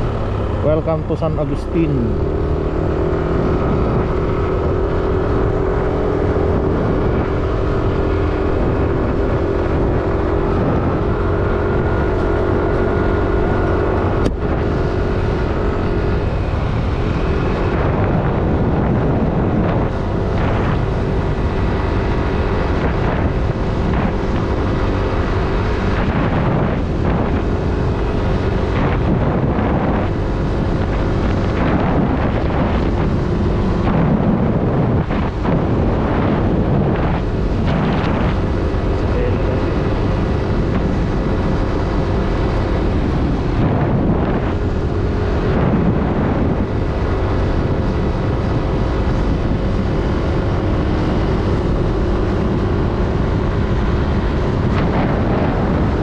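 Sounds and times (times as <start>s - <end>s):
scooter engine cruising: 0.0s - 56.0s
wind on microphone: 0.0s - 56.0s.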